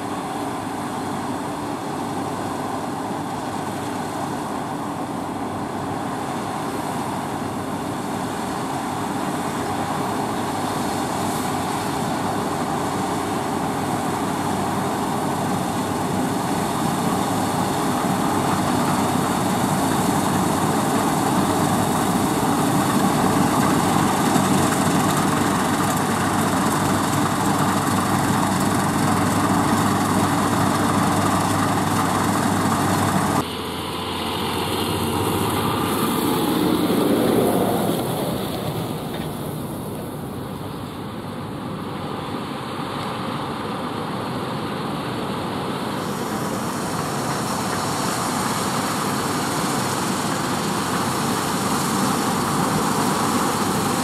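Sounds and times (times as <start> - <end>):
combine harvester droning: 0.0 - 54.0
tractor running: 0.0 - 54.0.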